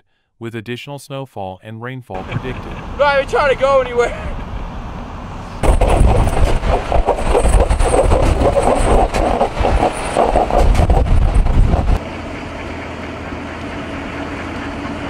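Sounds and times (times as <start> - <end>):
heavy truck rumbling: 2.2 - 15.0.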